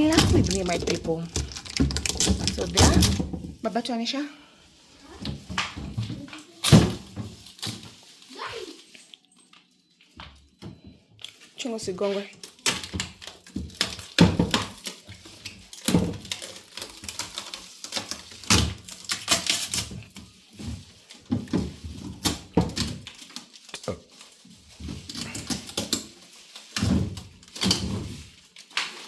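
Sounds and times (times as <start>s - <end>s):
packaging knocks and scraping: 0.0s - 4.0s, 5.0s - 10.5s, 11.2s - 29.0s.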